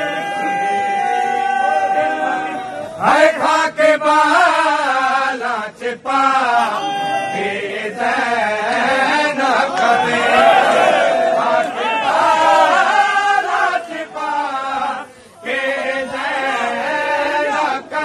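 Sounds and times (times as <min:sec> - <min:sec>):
men chanting a lament: 0:00.0 - 0:18.0.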